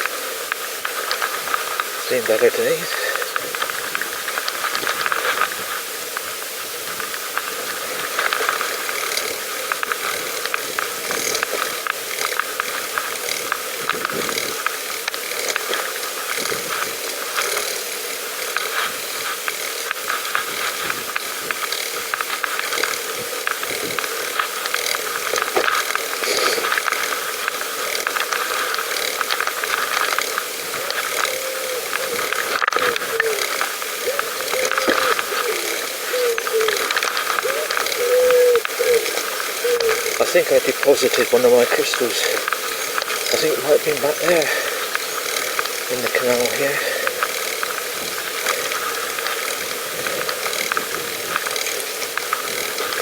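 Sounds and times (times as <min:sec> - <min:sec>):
bicycle freewheel ticking: 0:00.0 - 0:53.0
riding hiss: 0:00.0 - 0:53.0.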